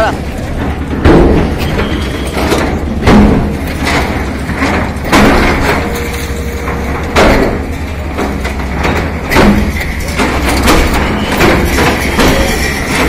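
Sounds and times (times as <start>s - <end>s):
diesel engine rumble: 0.0s - 13.0s
wall crashing down: 0.6s - 13.0s.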